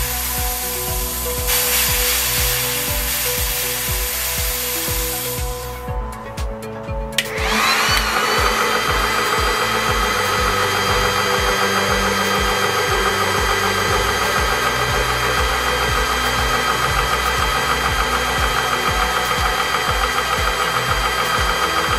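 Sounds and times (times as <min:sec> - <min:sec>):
air compressor motor whining: 0:00.0 - 0:06.1, 0:07.2 - 0:21.9.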